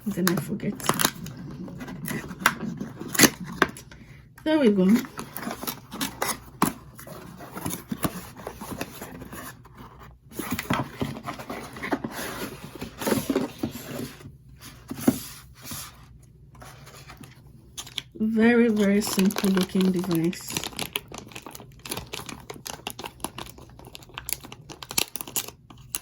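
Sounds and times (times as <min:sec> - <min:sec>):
cardboard packaging rustling: 0:00.0 - 0:04.0, 0:04.6 - 0:26.0.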